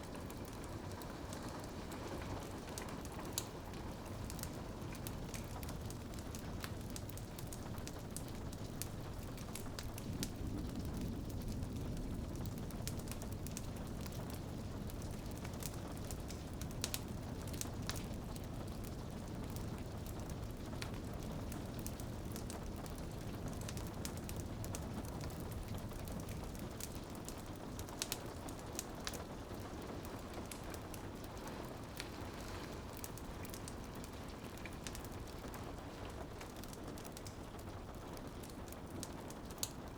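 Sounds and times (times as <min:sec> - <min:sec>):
rain pattering on a window: 0:00.0 - 0:39.9
wood fire crackling: 0:00.0 - 0:39.9.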